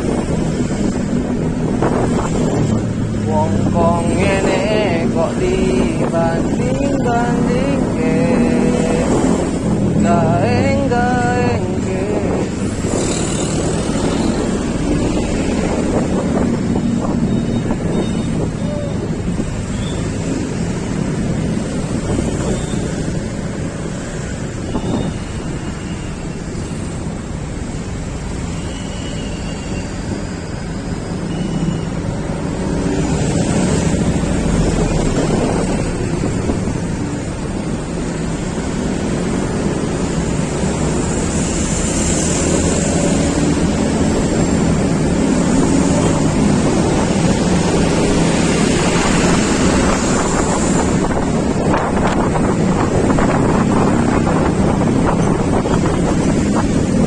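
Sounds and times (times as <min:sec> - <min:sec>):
wind rushing over microphone: 0:00.0 - 0:25.6, 0:32.0 - 0:57.0
road and engine noise: 0:00.0 - 0:57.0.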